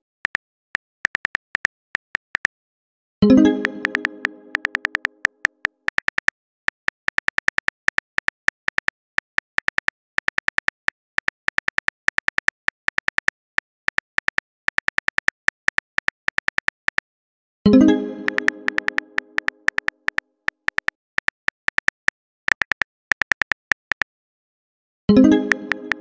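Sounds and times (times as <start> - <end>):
phone keyboard typing clicks: 0.0 - 2.6, 3.3 - 17.1, 18.2 - 24.1, 25.5 - 26.0.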